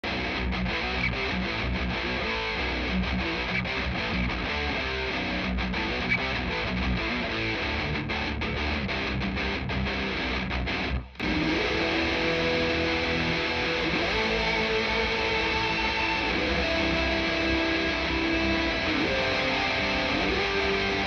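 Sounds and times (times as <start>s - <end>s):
distorted electric guitar rhythm: 0.0s - 21.0s
lead guitar held notes: 0.1s - 21.0s.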